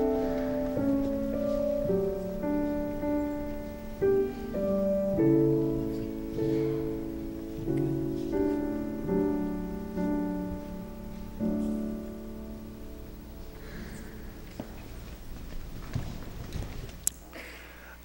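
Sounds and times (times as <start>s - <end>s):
slow chordal piano piece: 0.0s - 15.7s.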